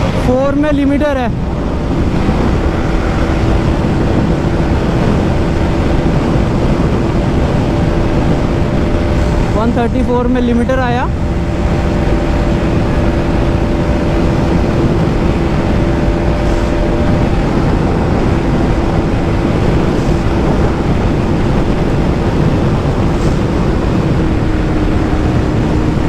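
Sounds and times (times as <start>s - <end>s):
wind rush: 0.0s - 26.0s.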